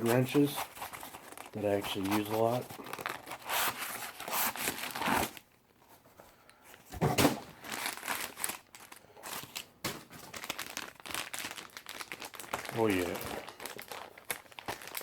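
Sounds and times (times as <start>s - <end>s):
packaging crinkling and tearing: 0.0s - 5.4s, 7.2s - 15.0s.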